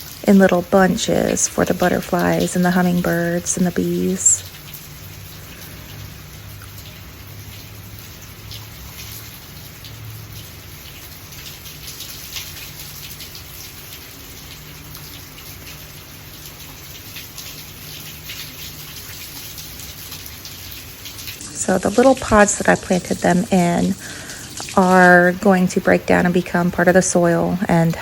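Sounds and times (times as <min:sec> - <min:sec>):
raindrops ticking on surfaces: 0:00.0 - 0:28.0
steady rain: 0:00.0 - 0:28.0.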